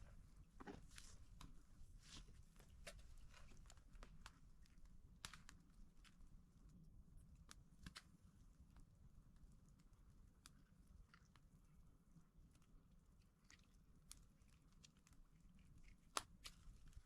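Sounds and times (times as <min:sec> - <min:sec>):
faint small clicks and taps: 0:00.5 - 0:17.0.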